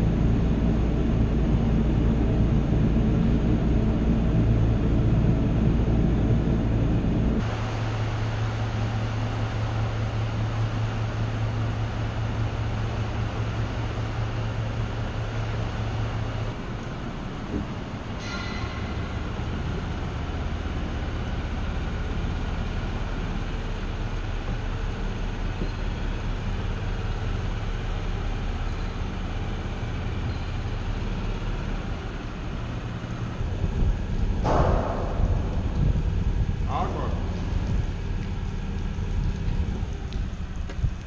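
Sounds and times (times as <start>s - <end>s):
boat motor droning: 0.0s - 41.0s.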